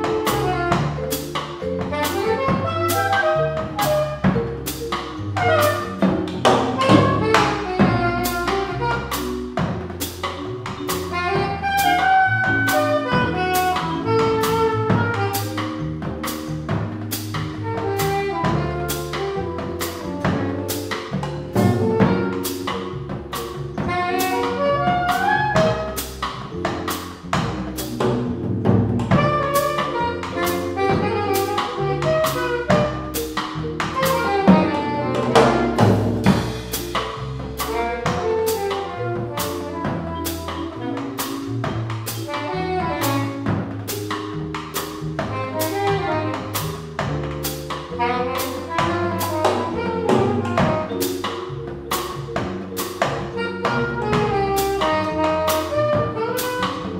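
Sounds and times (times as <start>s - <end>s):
drum kit beat: 0.0s - 56.9s
electric keyboard melody: 0.0s - 56.9s
upright bass: 0.0s - 56.9s.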